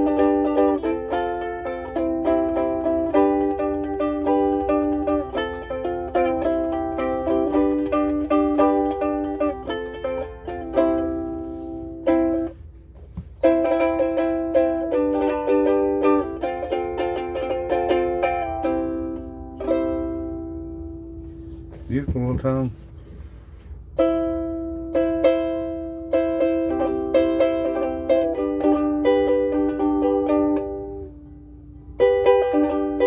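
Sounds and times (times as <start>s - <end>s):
ukulele plucked notes and chords: 0.0s - 22.6s, 23.8s - 33.0s.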